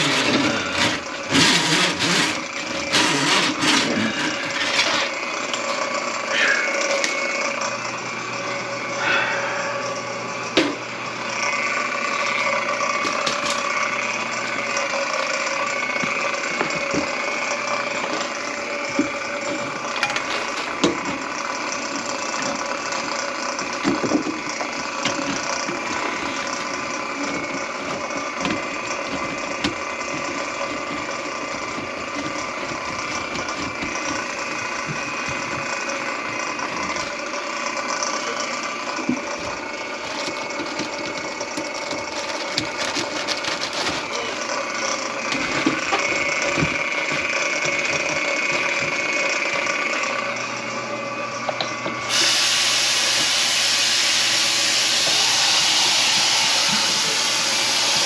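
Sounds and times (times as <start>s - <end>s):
drain-cleaning machine running: 0.0s - 58.0s.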